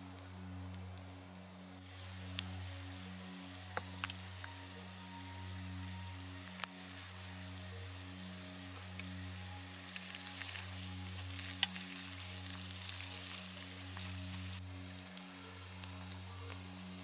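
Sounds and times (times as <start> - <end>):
potatoes sizzling in a pan: 1.8 - 17.0.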